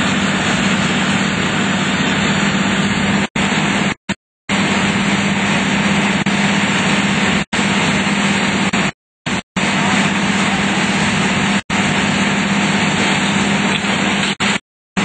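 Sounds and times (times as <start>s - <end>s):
large engine humming: 0.0s - 14.6s.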